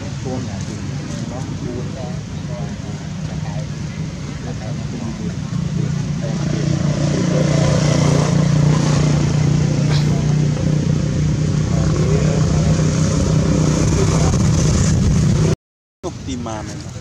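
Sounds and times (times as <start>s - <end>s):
low engine drone: 0.0s - 15.6s.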